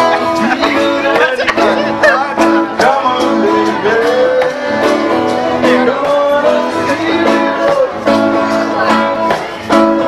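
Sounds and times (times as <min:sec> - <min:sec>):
live reggae band playing: 0:00.0 - 0:10.0
plucked guitar: 0:00.0 - 0:10.0.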